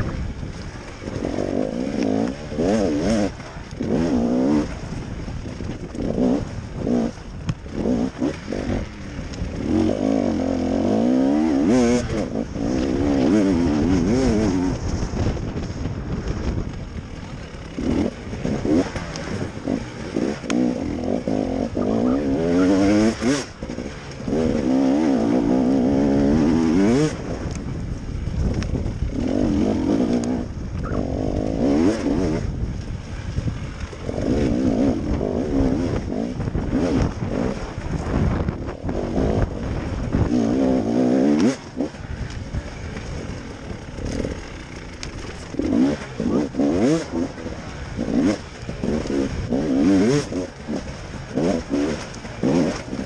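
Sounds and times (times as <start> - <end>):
motorcycle engine revving: 0.0 - 53.0
wind on microphone: 0.0 - 53.0.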